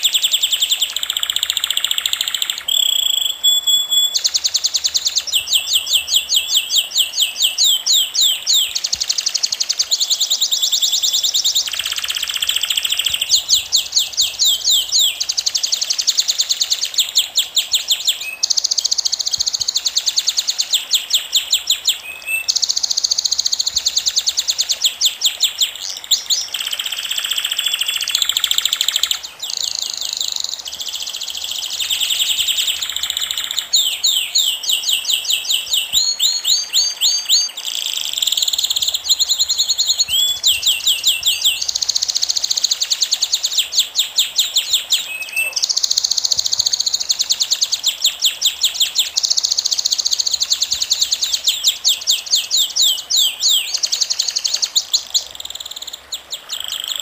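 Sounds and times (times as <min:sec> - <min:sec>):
bird trilling chirps: 0:00.0 - 0:57.0.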